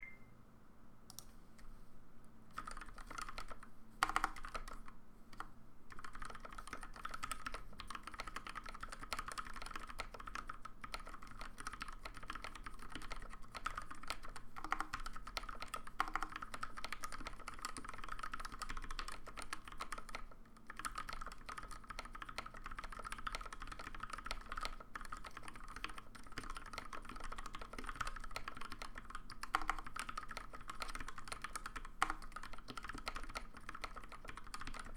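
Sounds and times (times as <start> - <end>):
mechanical keyboard typing: 2.5 - 34.9.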